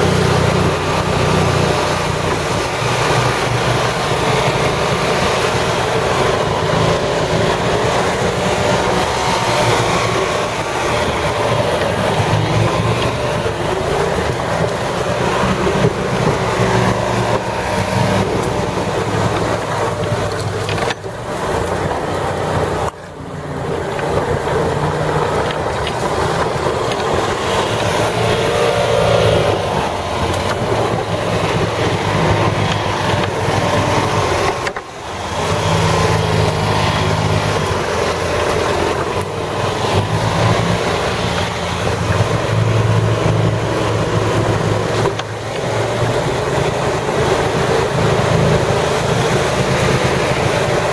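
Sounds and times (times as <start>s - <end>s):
small engine running under load: 0.0s - 50.9s.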